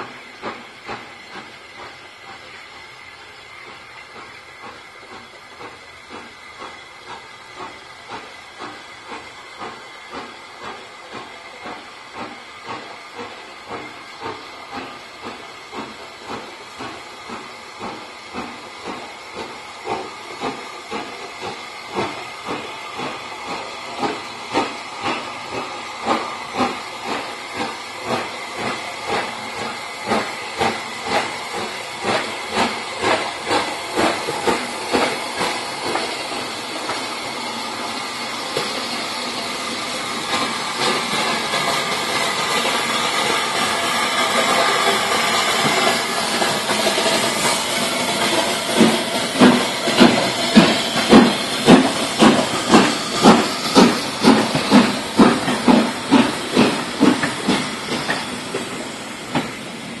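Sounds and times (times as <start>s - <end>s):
steam hissing: 0.0s - 60.0s
steam locomotive exhaust chuffs: 0.0s - 60.0s.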